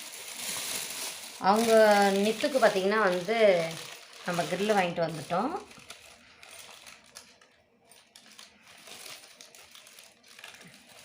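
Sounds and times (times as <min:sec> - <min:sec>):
food packaging crinkling: 0:00.0 - 0:11.0.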